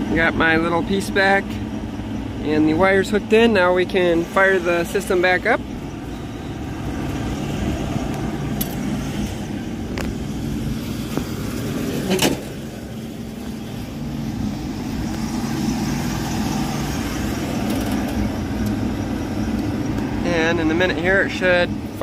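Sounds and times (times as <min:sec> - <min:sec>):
hvac equipment humming: 0:00.0 - 0:22.0.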